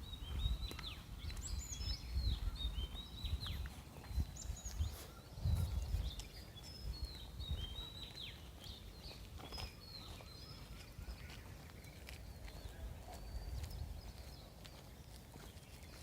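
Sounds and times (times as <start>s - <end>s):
forest birds chirping: 0.0s - 16.0s.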